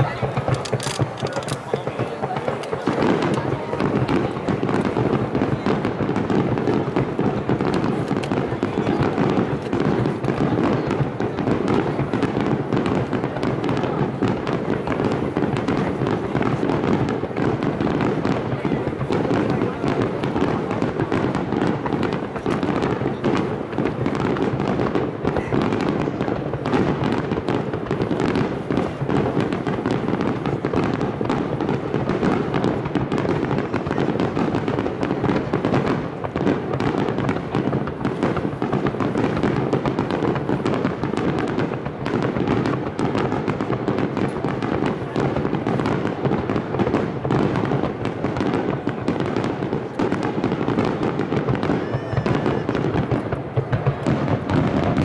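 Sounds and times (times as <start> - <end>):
fireworks booming and crackling: 0.0 - 55.0.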